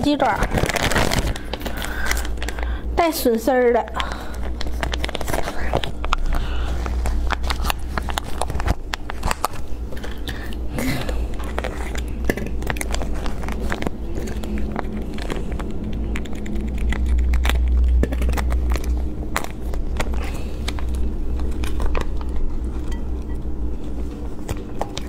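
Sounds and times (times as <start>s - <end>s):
plastic packet crinkling: 0.0s - 2.9s, 3.9s - 22.8s
steady low hum: 0.0s - 25.0s.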